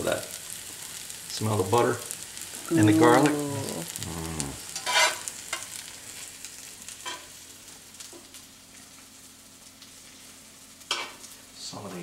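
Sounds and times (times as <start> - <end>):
food sizzling in skillet: 0.0 - 12.0.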